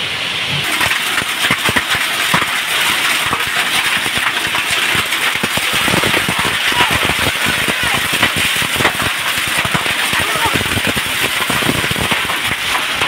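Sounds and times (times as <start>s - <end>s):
heavy rain and wind: 0.0s - 13.0s.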